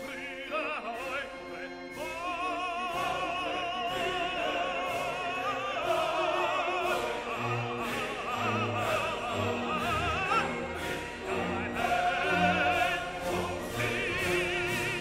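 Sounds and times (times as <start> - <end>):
operatic voice singing: 0.0 - 15.0
orchestra playing: 0.0 - 15.0.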